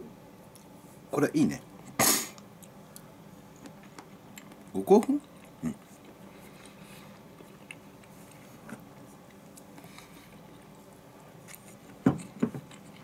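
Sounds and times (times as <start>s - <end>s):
soft chewing: 0.5s - 1.0s, 1.8s - 13.0s.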